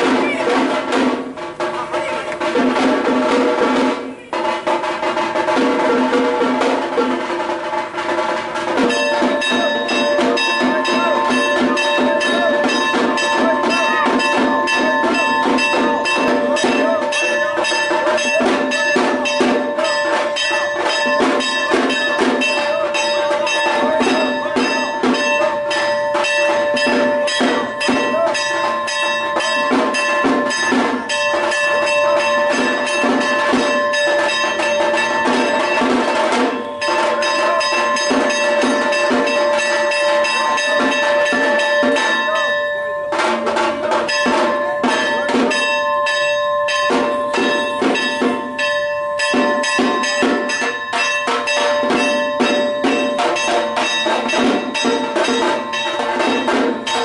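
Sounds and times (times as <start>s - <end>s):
bells clanging rapidly: 0.0s - 57.0s
drum beats: 0.0s - 57.0s.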